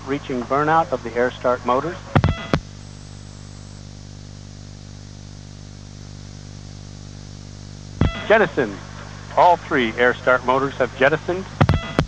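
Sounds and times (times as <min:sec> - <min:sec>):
line hiss and electrical hum: 0:00.0 - 0:12.0.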